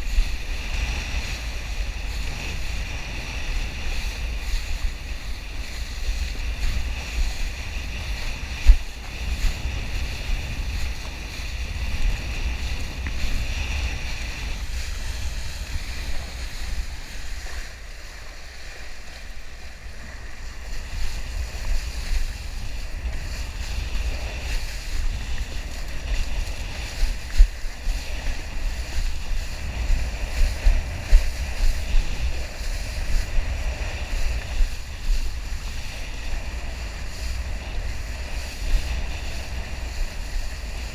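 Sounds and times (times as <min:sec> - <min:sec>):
water hissing and slapping: 0:00.0 - 0:40.9
wind buffeting microphone: 0:00.0 - 0:40.9.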